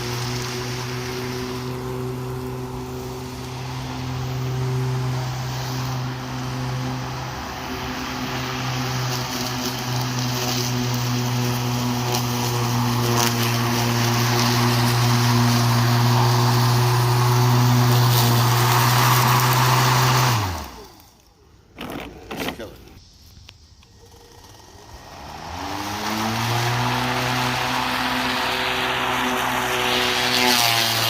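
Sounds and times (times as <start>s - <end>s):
electric lawn mower running: 0.0s - 22.5s, 23.8s - 31.0s
grass being cut: 0.0s - 22.7s, 23.8s - 31.0s
mower blade spinning down: 0.0s - 22.8s, 23.8s - 31.0s.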